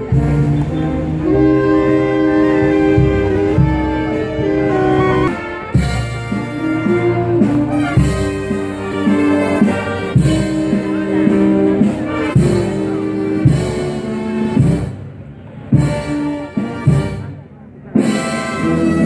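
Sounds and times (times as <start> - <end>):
brass band playing a march: 0.0 - 19.0
heavy drum strokes: 0.0 - 19.0.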